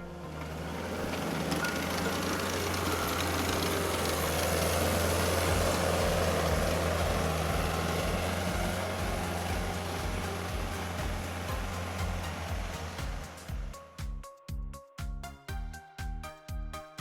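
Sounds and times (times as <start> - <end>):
tractor engine idling: 0.0 - 13.8.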